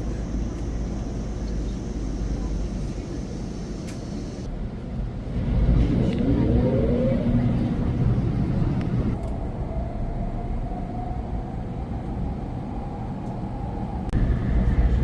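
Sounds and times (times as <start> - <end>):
train running with low rumble: 0.0 - 15.0.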